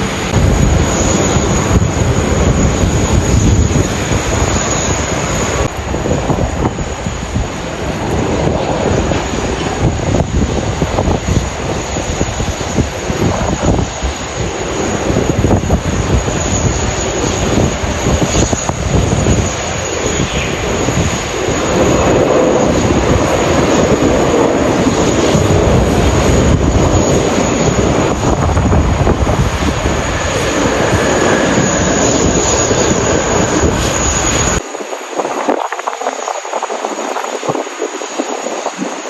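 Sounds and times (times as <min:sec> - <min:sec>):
jet engines passing: 0:00.0 - 0:39.0
wind buffeting microphone: 0:00.0 - 0:39.0.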